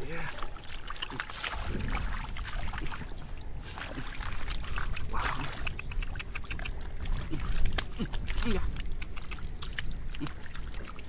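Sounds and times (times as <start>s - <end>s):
fish splashing in shallow water: 0.0s - 11.0s.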